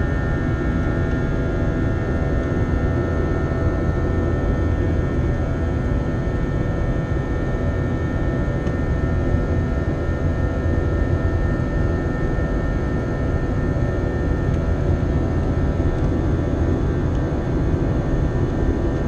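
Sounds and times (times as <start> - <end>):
jet engine rumble and rushing air: 0.0 - 19.0.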